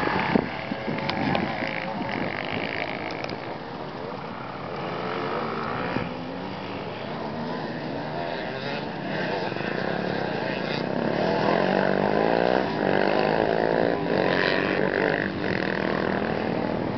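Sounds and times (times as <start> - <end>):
distant motorcycle engine revving: 0.0 - 16.9.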